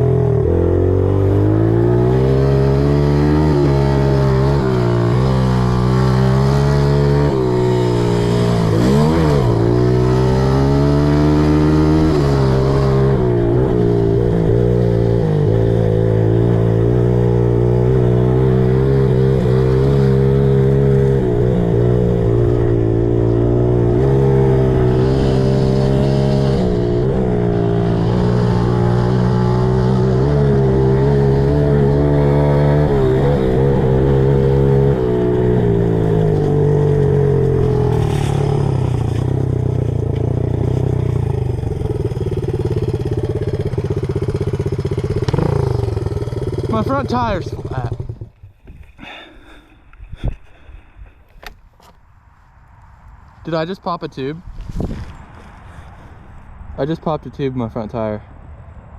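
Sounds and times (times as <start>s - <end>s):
pit bike engine revving: 0.0s - 51.9s.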